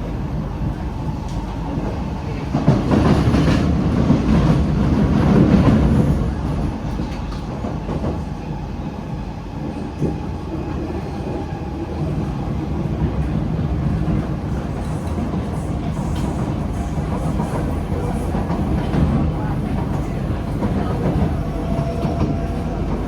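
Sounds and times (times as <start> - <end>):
rumble of wheels on rail: 0.0 - 23.0.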